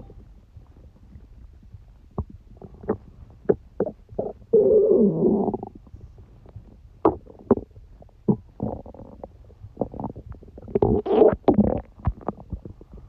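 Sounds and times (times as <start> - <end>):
stomach gurgling: 0.6 - 13.0.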